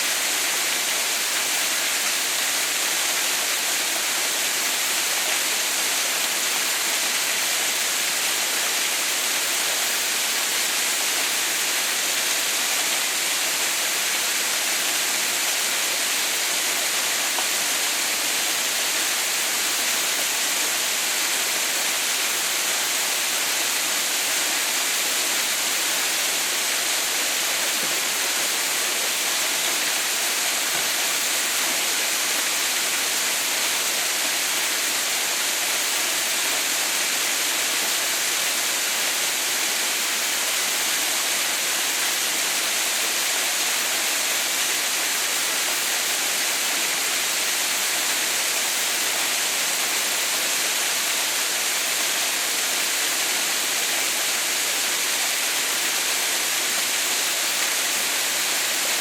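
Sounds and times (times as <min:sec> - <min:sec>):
waterfall hiss: 0:00.0 - 0:59.0.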